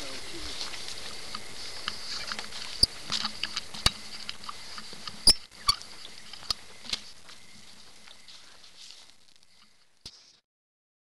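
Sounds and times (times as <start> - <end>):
dry grass rustling: 0.0 - 10.4
faint high hiss: 0.0 - 10.4.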